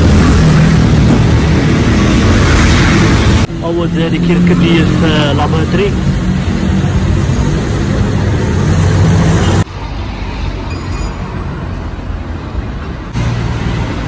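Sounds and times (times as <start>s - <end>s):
road traffic: 0.0s - 14.0s
vehicle engines running: 0.0s - 14.0s.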